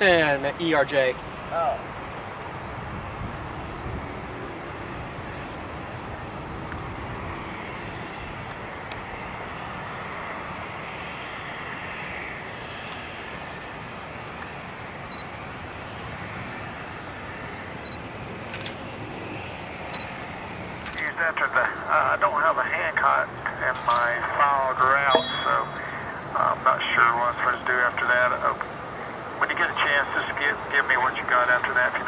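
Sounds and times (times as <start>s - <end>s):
jet engines whining at low power: 0.0s - 32.0s.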